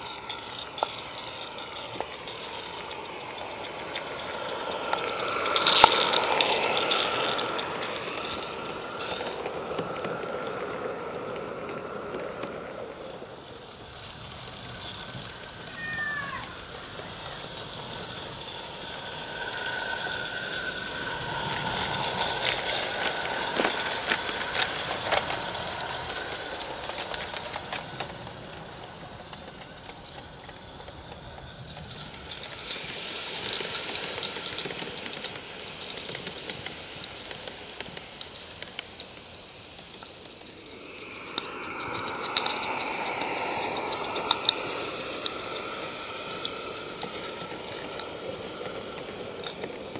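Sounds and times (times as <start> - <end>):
steam locomotive hissing: 0.0 - 49.9
wheels clicking on track: 0.0 - 49.9.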